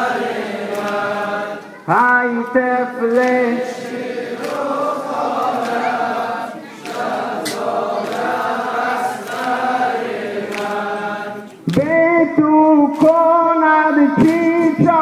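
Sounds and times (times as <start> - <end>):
men chanting in unison: 0.0 - 12.4.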